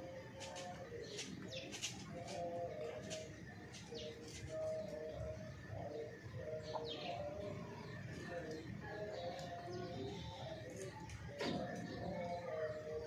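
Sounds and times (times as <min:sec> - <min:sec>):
birds chirping: 0:00.0 - 0:13.0
birds cooing: 0:00.0 - 0:13.0.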